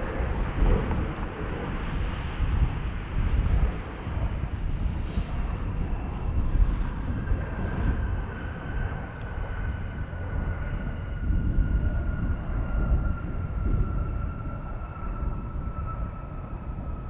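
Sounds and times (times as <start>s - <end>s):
jet engine whine: 0.0s - 17.0s
wind rumble on microphone: 0.0s - 17.0s.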